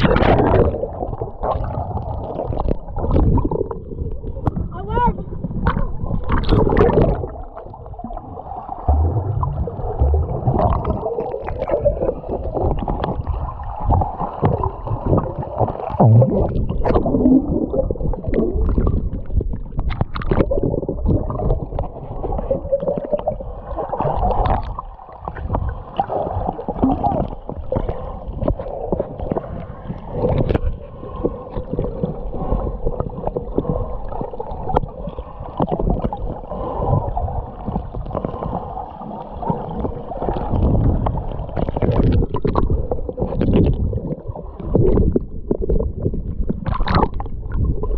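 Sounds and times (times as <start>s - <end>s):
water sloshing and gurgling: 0.0s - 47.9s.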